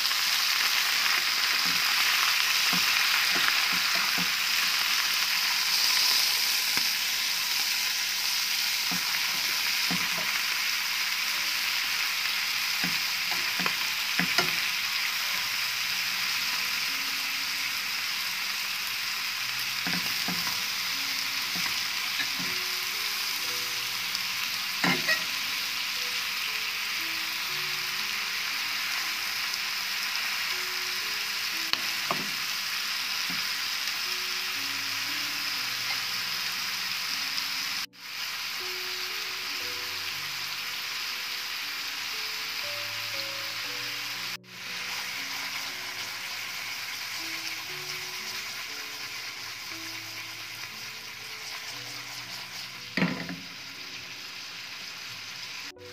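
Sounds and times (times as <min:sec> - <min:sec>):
liver sizzling in pan: 0:00.0 - 0:55.9.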